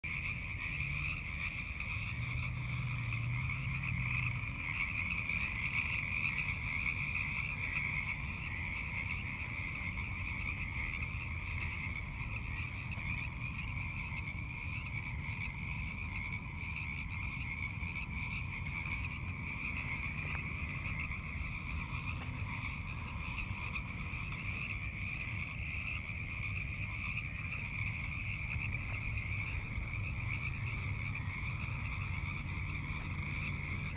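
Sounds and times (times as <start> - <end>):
chorus of frogs calling: 0.0 - 33.9.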